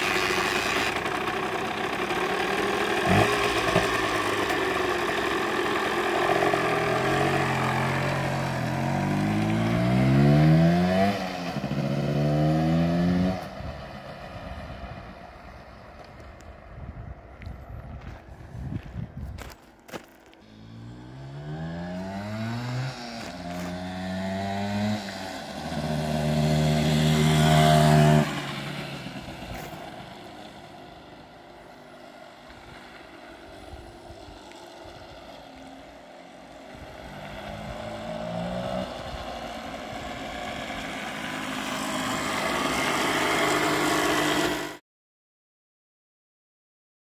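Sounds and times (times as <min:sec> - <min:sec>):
motorbike accelerating through gears: 0:00.0 - 0:15.1, 0:20.4 - 0:31.3, 0:32.3 - 0:44.8.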